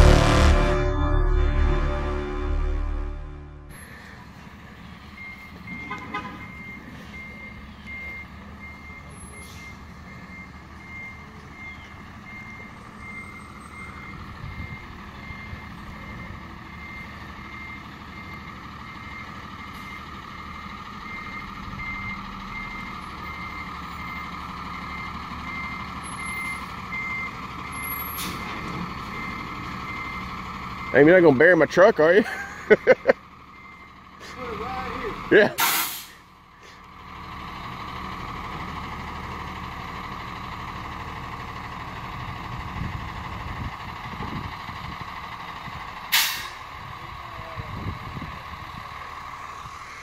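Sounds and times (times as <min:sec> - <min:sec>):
truck backup alarm beeping: 0:00.0 - 0:50.0
truck engine running: 0:00.0 - 0:50.0.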